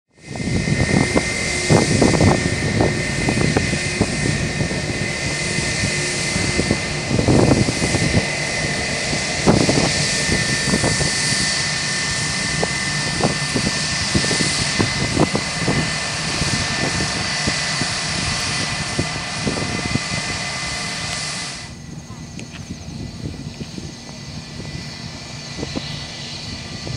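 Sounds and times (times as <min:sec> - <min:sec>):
jet engines whining: 0:00.1 - 0:26.9
low rumble: 0:00.1 - 0:26.9.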